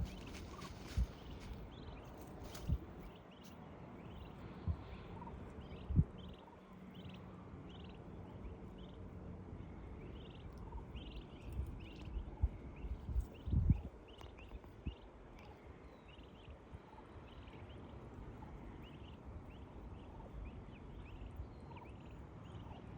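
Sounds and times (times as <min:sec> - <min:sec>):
turkey poults peeping: 0:00.0 - 0:09.2, 0:09.8 - 0:22.9.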